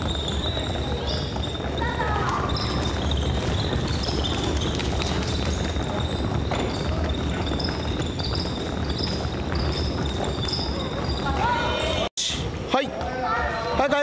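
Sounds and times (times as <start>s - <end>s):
basketballs bouncing: 0.0s - 13.6s.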